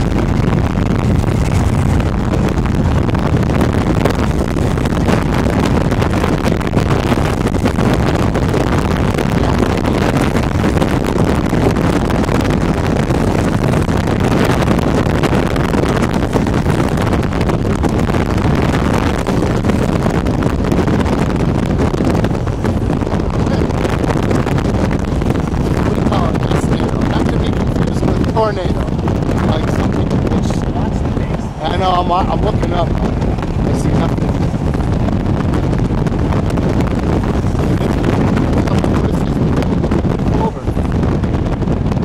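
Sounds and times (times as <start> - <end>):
storm wind buffeting microphone: 0.0 - 42.0.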